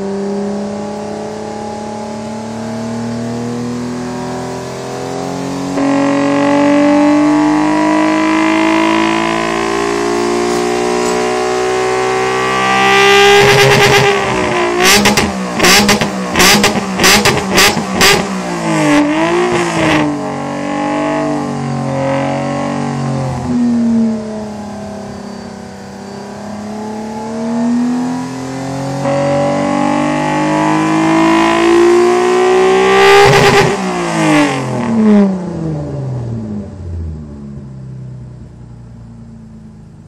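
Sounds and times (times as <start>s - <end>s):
car engine and exhaust running: 0.0s - 40.0s.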